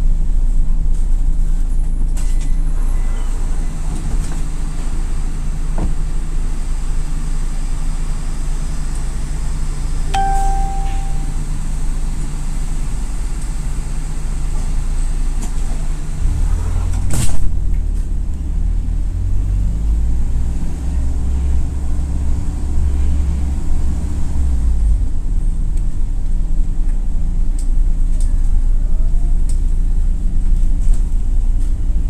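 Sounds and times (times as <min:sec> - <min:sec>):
bus engine droning: 0:00.0 - 0:32.0.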